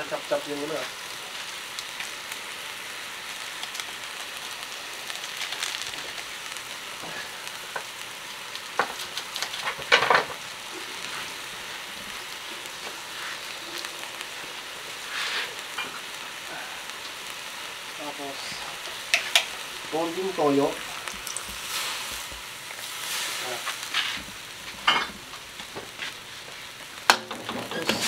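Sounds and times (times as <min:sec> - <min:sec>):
meat sizzling in oil: 0:00.0 - 0:28.0
crackles and clatter: 0:00.7 - 0:28.0.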